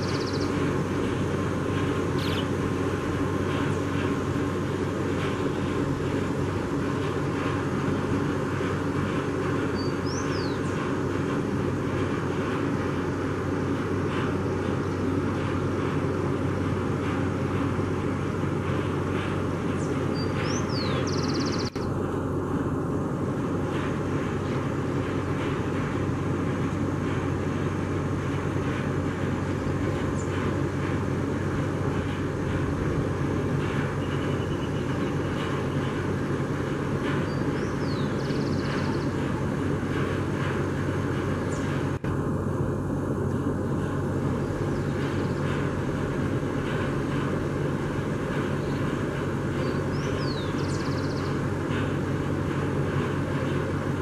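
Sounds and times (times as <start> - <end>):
distant jet airliner rumble: 0.0 - 54.0.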